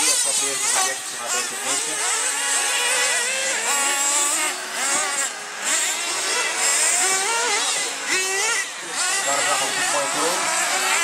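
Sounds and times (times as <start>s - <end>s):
small engines revving: 0.0s - 11.0s.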